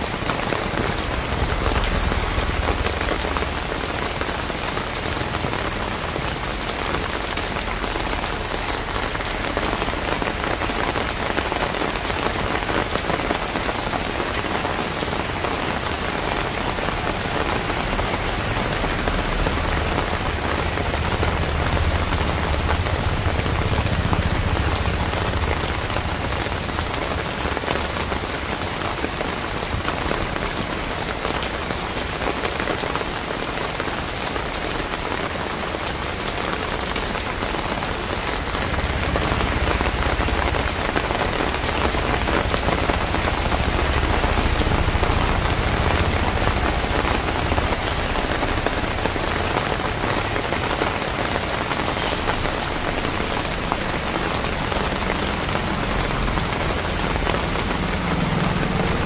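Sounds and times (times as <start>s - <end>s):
rain on wet pavement: 0.0s - 59.0s.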